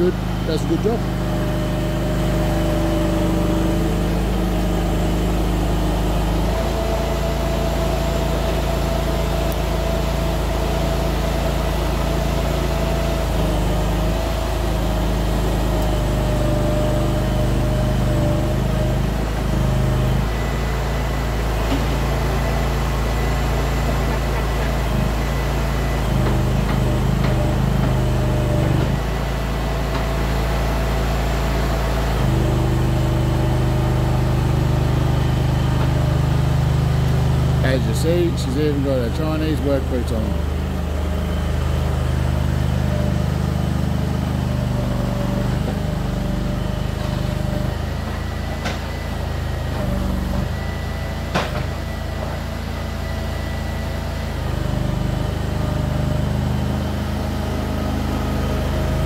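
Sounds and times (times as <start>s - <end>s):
mini loader engine running: 0.0s - 59.0s.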